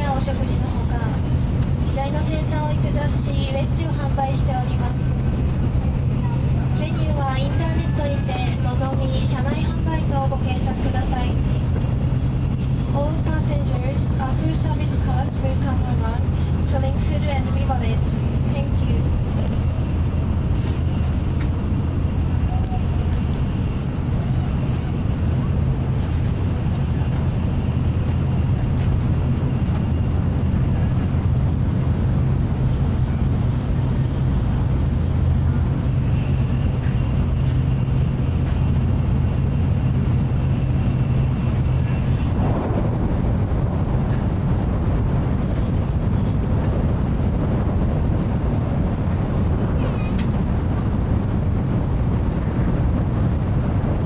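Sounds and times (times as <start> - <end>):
train running noise at speed: 0.0 - 54.0.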